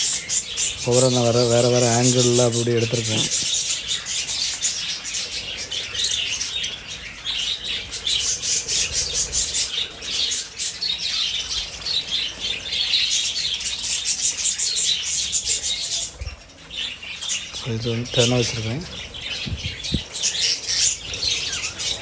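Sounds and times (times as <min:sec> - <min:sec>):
budgerigars chattering and chirping: 0:00.0 - 0:22.0.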